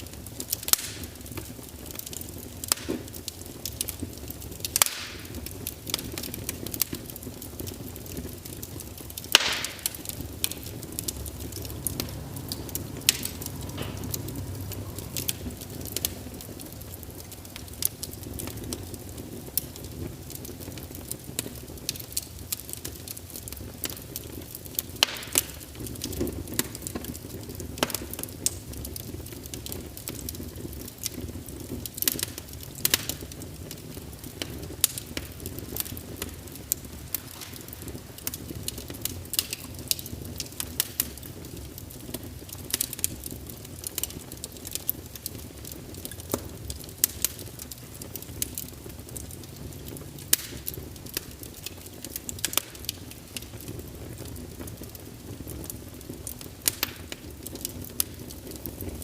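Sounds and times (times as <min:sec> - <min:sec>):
low rush of burning: 0:00.0 - 0:59.0
wood fire crackling: 0:00.0 - 0:59.0.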